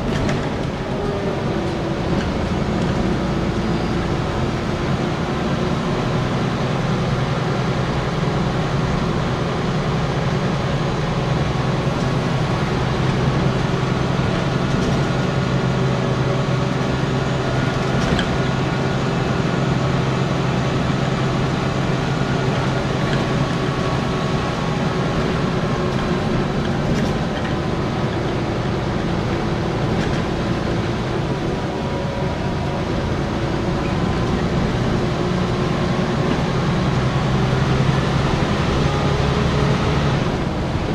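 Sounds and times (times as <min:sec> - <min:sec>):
bus diesel engine drone: 0:00.0 - 0:40.9.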